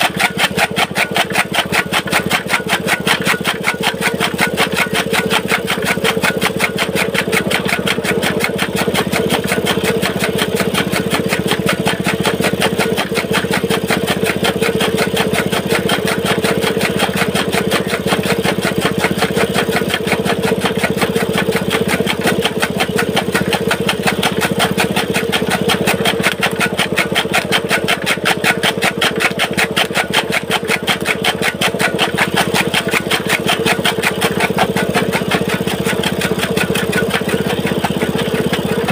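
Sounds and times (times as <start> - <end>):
chaff cutter chopping fodder: 0.0 - 38.9
small petrol engine running: 0.0 - 38.9.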